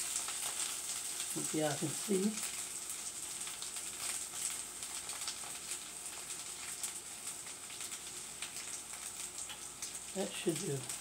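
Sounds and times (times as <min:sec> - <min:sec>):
food sizzling in a frying pan: 0:00.0 - 0:11.0
oil crackling: 0:00.0 - 0:11.0.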